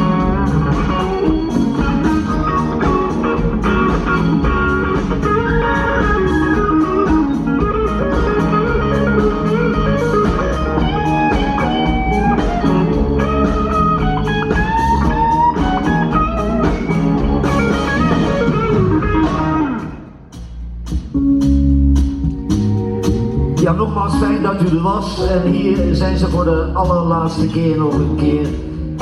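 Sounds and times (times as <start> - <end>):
blues band playing: 0.0 - 29.0
electric guitar lead: 0.0 - 29.0.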